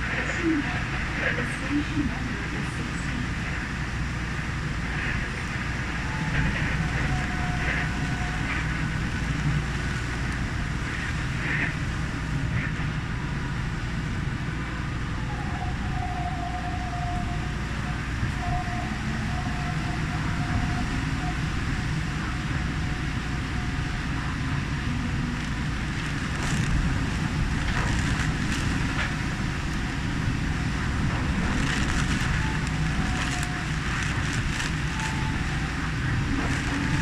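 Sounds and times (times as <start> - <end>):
faint whine: 0.0 - 37.0
monorail train rumbling: 0.0 - 37.0.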